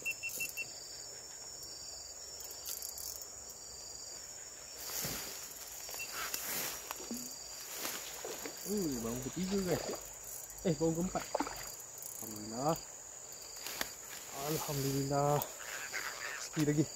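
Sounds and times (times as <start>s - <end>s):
insects chirring: 0.0s - 16.9s.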